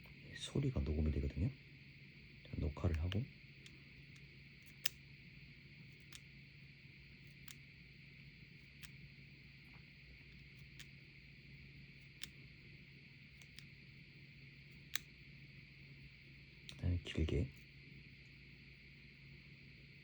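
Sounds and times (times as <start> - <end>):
faint electronic hiss and hum: 0.0 - 20.0.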